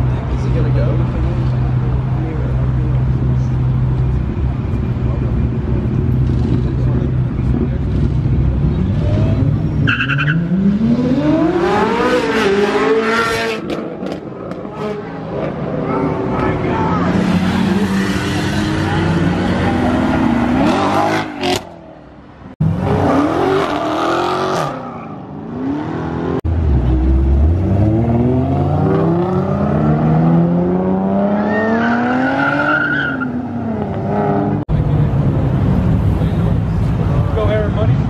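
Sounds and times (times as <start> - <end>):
sports cars accelerating hard: 5.3 - 21.7, 22.6 - 37.1.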